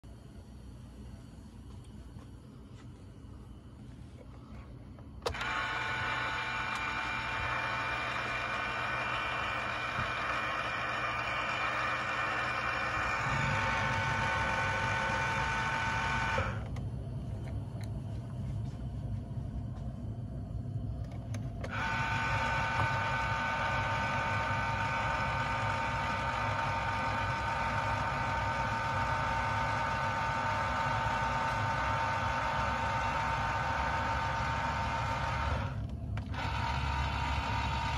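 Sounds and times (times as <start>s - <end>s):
electric motor hum with whine: 0.0s - 37.9s.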